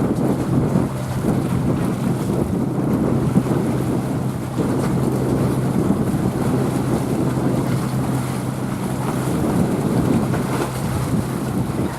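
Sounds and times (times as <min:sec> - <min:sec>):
ship engine low hum: 0:00.0 - 0:11.9
water washing: 0:00.0 - 0:11.9
wind buffeting microphone: 0:00.0 - 0:11.9.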